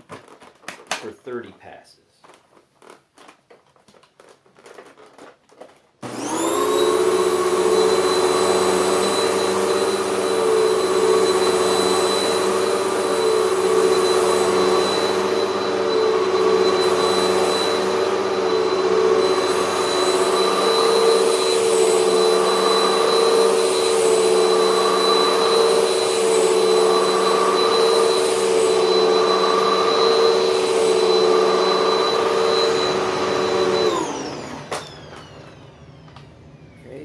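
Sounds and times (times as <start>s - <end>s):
vacuum cleaner running on carpet: 4.6s - 37.0s
vacuum motor winding down: 6.0s - 37.0s.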